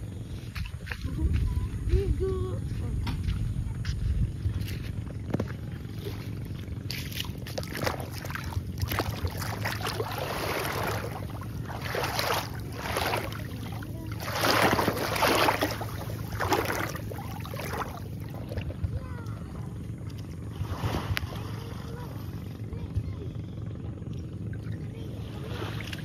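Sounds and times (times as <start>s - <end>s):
low steady rumble: 0.0s - 26.0s
footsteps splashing in shallow water: 0.2s - 2.0s, 2.7s - 21.6s, 25.3s - 26.0s.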